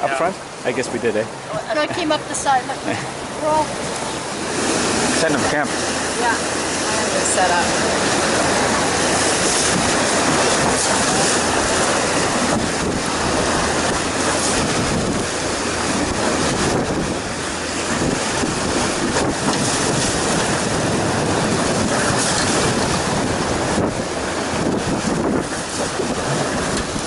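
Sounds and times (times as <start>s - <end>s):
river water rushing: 0.0s - 27.0s
wind buffeting microphone: 3.0s - 27.0s.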